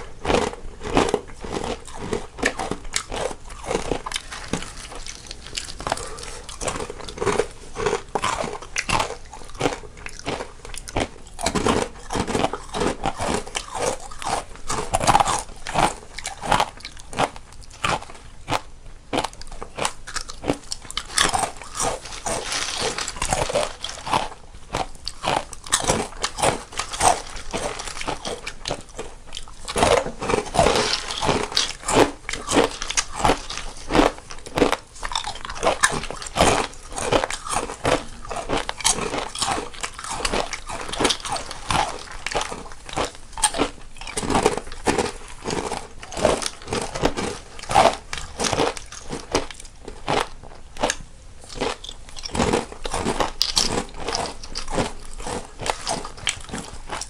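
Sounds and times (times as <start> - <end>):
people chewing crunchy snacks: 0.0 - 57.0.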